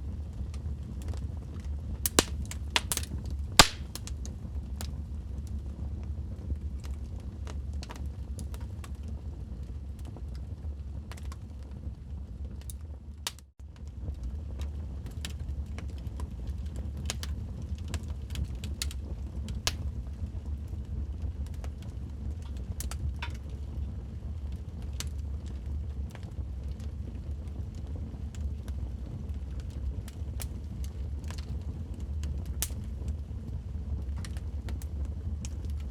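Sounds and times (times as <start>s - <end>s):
wood fire crackling and popping: 0.3s - 5.6s, 6.6s - 11.6s, 12.6s - 35.9s.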